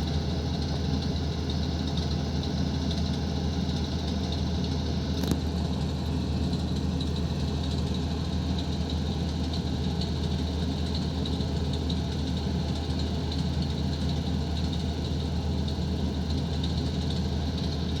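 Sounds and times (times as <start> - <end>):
diesel engine idling hum: 0.0 - 18.0.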